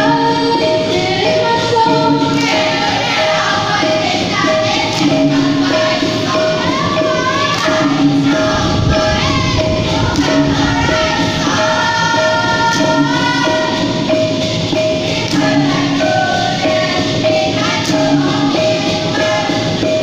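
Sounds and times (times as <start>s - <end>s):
ensemble accompaniment: 0.0s - 20.0s
singer and chorus singing: 0.0s - 20.0s.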